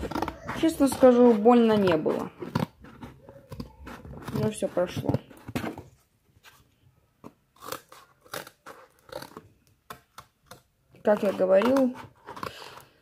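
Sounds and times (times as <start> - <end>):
cardboard crackling: 0.0 - 13.0.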